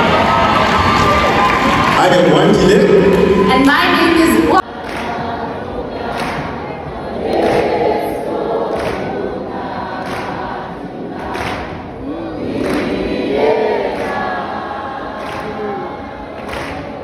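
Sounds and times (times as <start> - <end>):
choir singing gospel song: 0.0 - 17.0.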